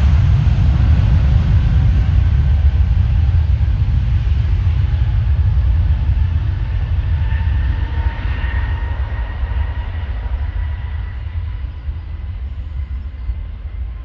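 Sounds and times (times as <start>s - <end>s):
jet engines deep rumble with whine: 0.0s - 14.0s.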